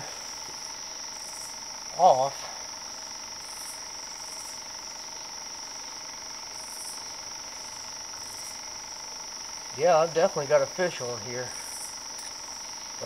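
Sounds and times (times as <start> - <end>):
cricket trill: 0.0 - 13.0
insect buzzes: 0.0 - 13.0.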